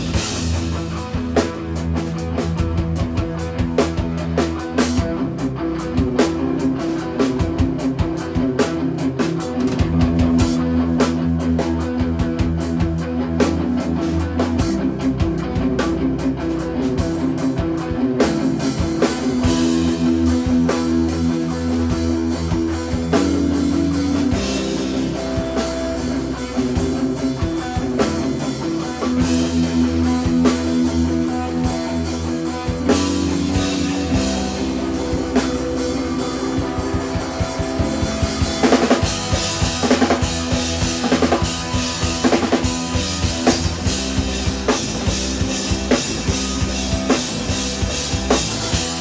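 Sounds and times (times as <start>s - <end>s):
instrumental rock band playing live: 0.0s - 49.0s.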